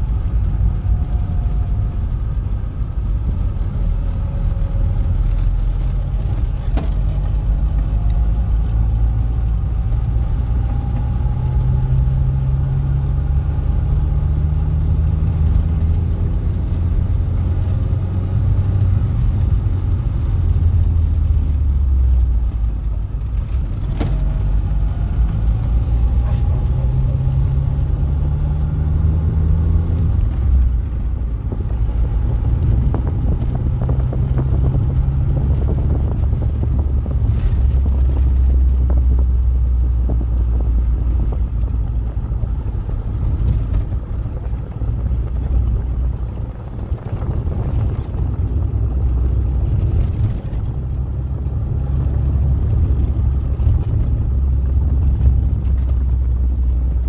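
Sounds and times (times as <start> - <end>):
car engine: 0.0 - 57.0
road noise: 0.0 - 57.0.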